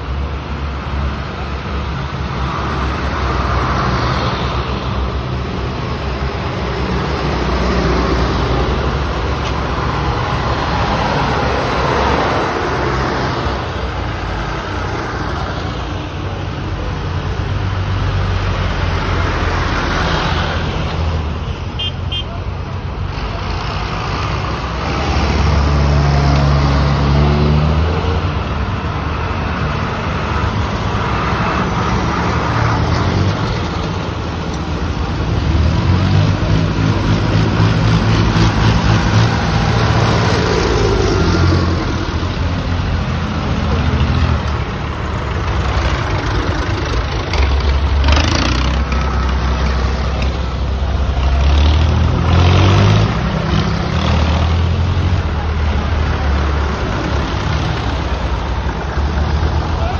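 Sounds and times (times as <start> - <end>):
diesel tractor engines passing: 0.0 - 59.9.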